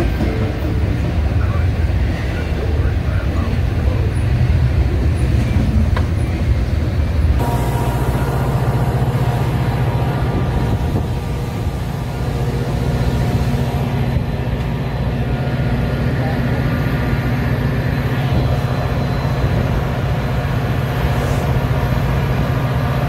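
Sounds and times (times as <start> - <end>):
diesel train engines rumbling: 0.0 - 23.0.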